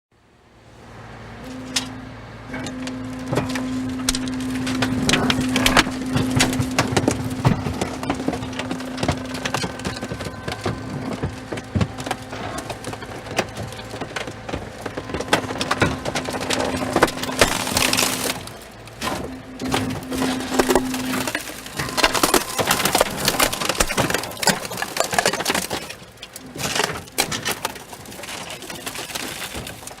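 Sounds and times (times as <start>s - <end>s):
machine hum: 0.2s - 30.0s
metal and glass crunching: 1.4s - 30.0s.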